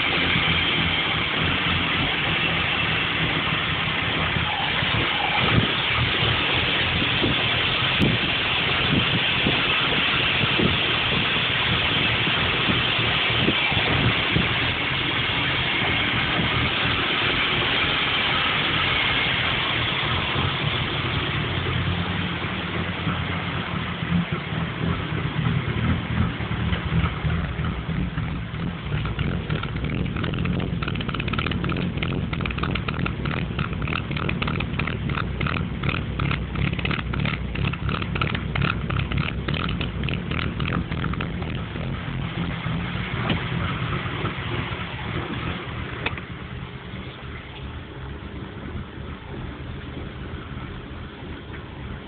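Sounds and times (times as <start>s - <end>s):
loud rushing noise: 0.0s - 46.9s
engine idling roughly: 0.0s - 52.0s.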